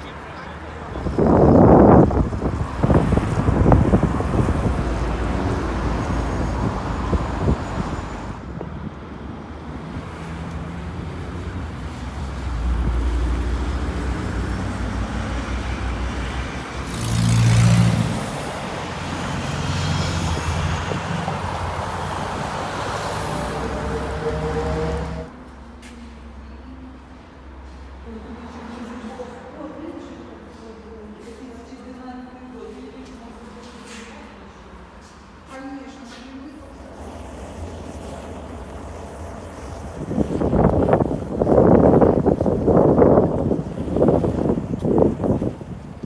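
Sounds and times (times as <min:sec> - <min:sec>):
vehicle passing with low engine hum: 0:00.0 - 0:31.6, 0:32.2 - 0:46.0
passing road traffic: 0:00.0 - 0:46.0.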